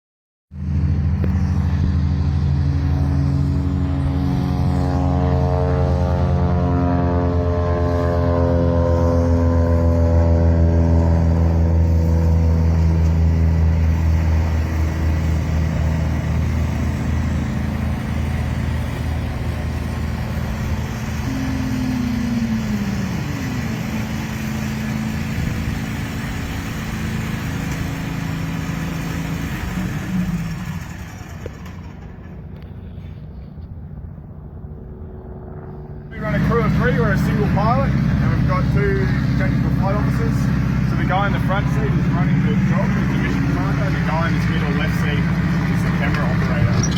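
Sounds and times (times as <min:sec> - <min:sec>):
helicopter humming: 0:00.5 - 0:46.9.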